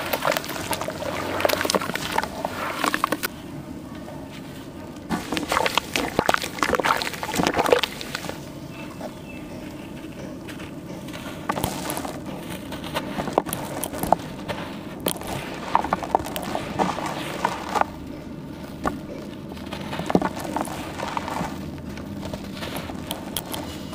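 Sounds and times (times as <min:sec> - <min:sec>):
wet charcoal squishing and crackling: 0:00.0 - 0:03.4, 0:04.2 - 0:23.9.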